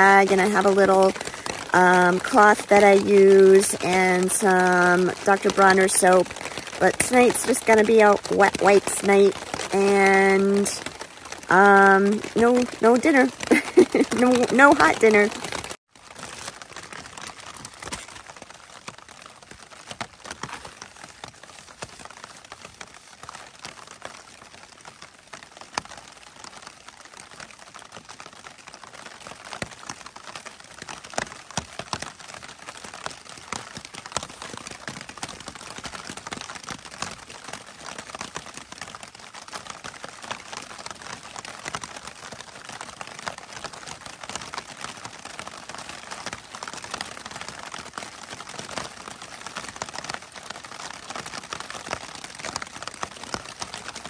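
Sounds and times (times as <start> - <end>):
plastic bag crinkling: 0.0 - 54.0
rain pattering on tent fabric: 0.0 - 54.0.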